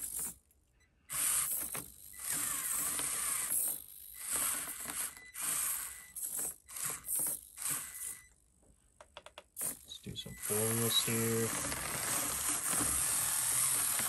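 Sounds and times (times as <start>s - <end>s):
toy car motor whining: 1.1s - 8.4s, 9.6s - 14.0s.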